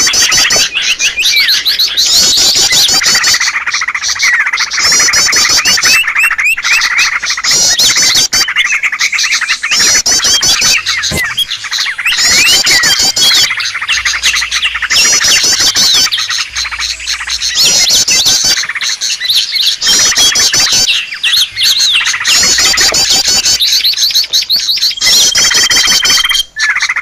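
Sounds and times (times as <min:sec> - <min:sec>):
songbirds chirping and chattering: 0:00.0 - 0:27.0.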